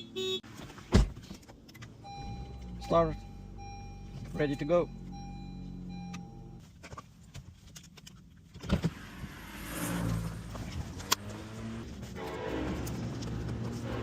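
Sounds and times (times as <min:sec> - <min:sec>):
car engine humming: 0:01.5 - 0:06.7, 0:07.9 - 0:14.0.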